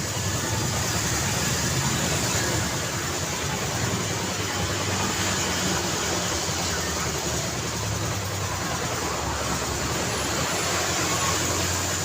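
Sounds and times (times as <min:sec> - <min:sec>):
car and motorcycle engines: 0:00.0 - 0:12.0
tyres on the road: 0:00.0 - 0:12.0.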